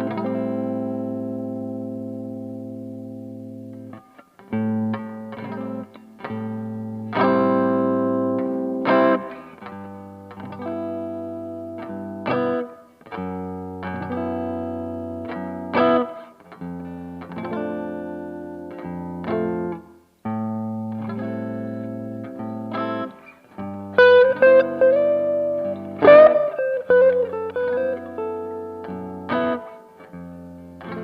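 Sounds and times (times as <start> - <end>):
overdriven electric guitar chords: 0.0 - 31.0.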